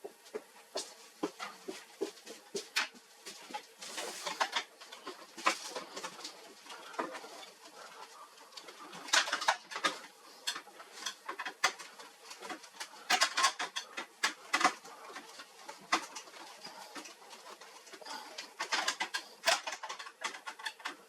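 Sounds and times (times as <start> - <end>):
sharp clicks and light knocks: 1.2 - 21.0.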